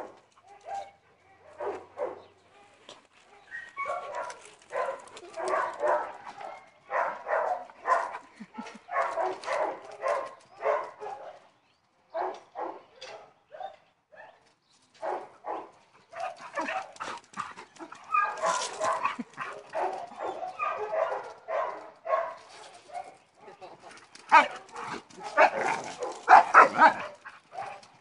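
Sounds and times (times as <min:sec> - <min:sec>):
young dogs barking and yipping: 0:00.0 - 0:11.5, 0:15.0 - 0:28.0.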